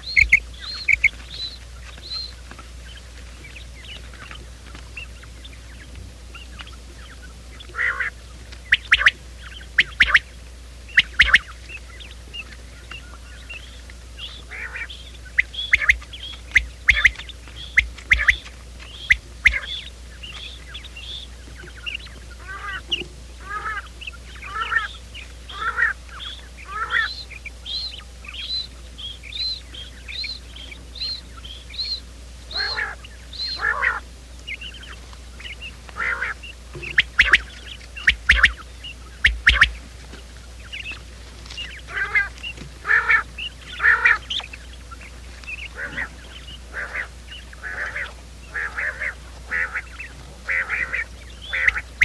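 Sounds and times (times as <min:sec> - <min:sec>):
quail chirping calls: 0:00.0 - 0:52.0.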